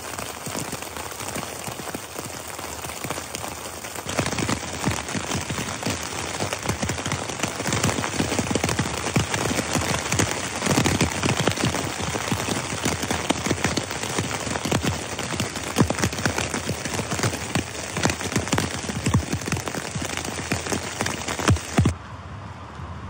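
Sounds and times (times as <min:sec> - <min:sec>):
heavy rain on tent fabric: 0:00.0 - 0:22.0.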